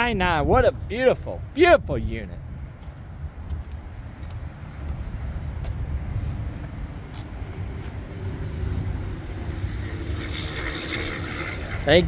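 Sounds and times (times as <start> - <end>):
faint droning hum: 0.0 - 12.0
low outdoor rumble: 0.0 - 12.0.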